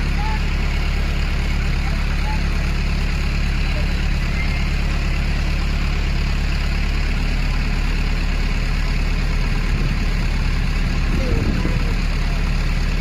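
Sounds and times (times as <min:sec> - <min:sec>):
pickup truck engine running: 0:00.0 - 0:13.0.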